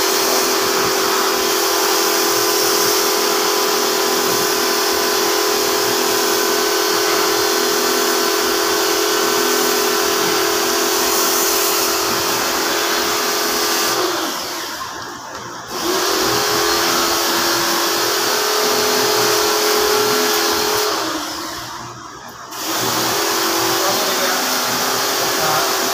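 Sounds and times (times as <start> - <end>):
pressure washer running: 0.0 - 25.9.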